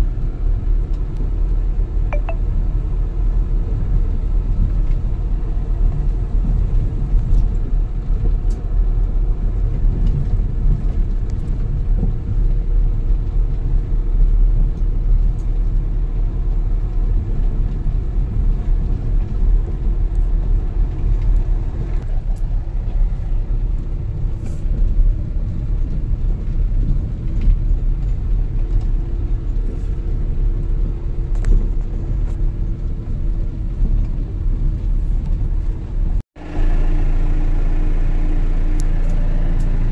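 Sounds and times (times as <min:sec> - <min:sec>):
low rumble of tyres and engine: 0:00.0 - 0:39.9.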